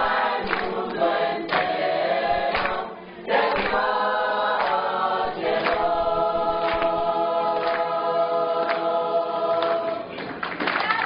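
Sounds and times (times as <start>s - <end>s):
choir singing: 0.0s - 10.2s.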